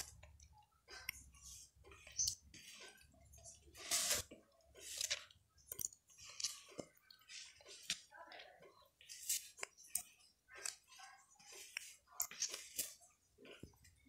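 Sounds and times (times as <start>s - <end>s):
spoon stirring squelching batter: 0.0s - 14.0s.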